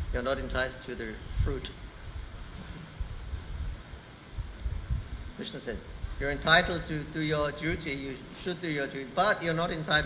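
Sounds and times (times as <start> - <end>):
low uneven background rumble: 0.0 - 10.0.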